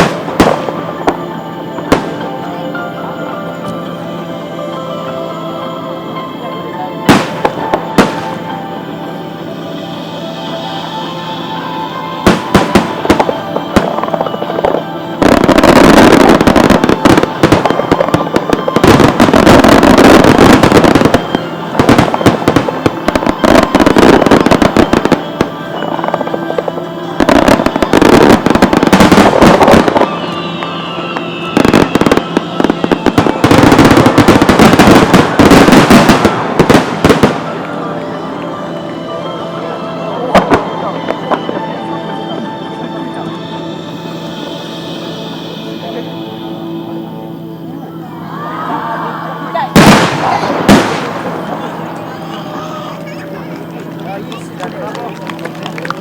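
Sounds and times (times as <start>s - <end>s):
fireworks bangs and crackle: 0.0s - 2.9s, 7.0s - 42.4s, 49.4s - 56.0s.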